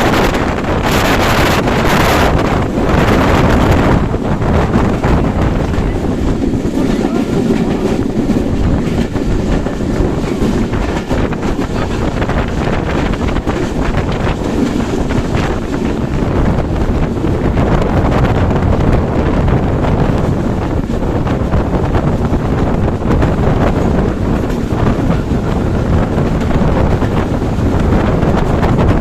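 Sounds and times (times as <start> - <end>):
train running on rails: 0.0 - 29.0
wind buffeting microphone: 0.0 - 29.0.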